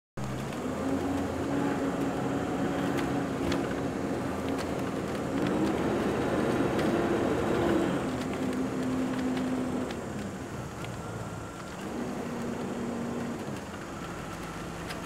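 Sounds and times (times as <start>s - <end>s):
car engine from inside cabin: 0.2s - 15.0s.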